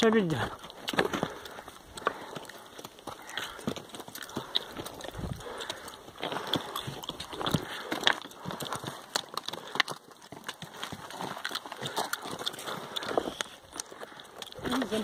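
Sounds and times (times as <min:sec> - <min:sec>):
hooves clopping on stones: 0:00.0 - 0:15.0
stones knocking and scraping: 0:00.0 - 0:15.0.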